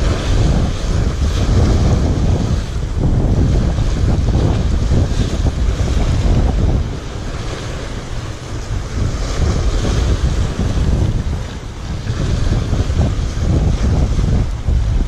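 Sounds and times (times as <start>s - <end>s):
waves surging against concrete: 0.0s - 15.0s
wind buffeting microphone: 0.0s - 15.0s.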